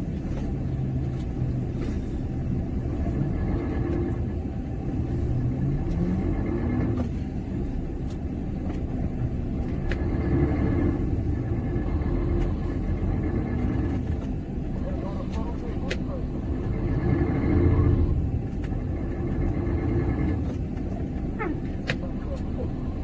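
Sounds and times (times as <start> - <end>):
truck diesel engine revving: 0.0 - 23.0.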